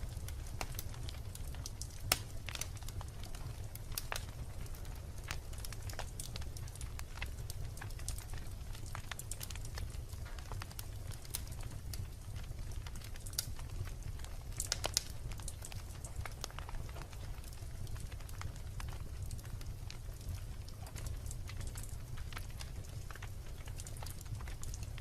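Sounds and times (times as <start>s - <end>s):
logs crackling and popping in fire: 0.0s - 25.0s
low rumble of flames: 0.0s - 25.0s.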